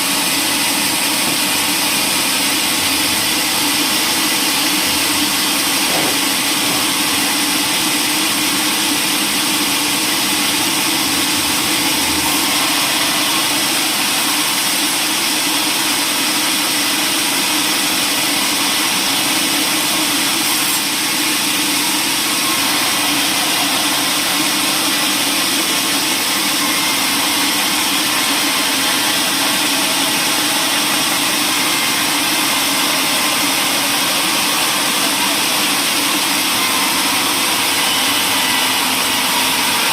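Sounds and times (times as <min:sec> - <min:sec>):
machinery running: 0:00.0 - 0:39.9.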